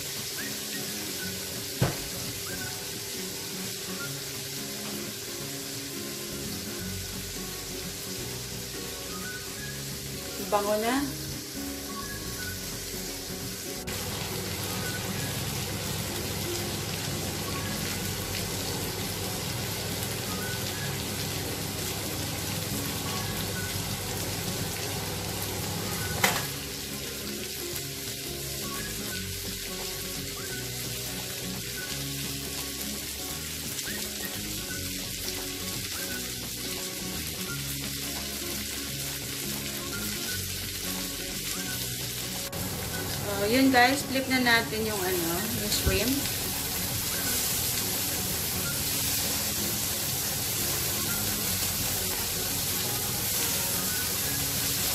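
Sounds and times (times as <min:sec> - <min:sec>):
shrimp sizzling in oil: 0:00.0 - 0:54.9.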